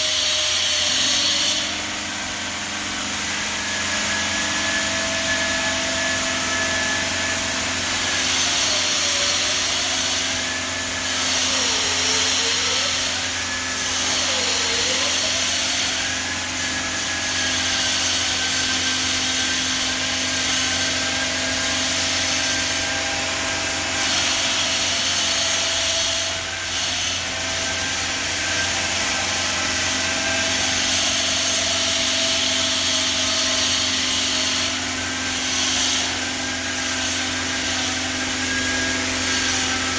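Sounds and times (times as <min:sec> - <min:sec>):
stone saw cutting: 0:00.0 - 0:39.9.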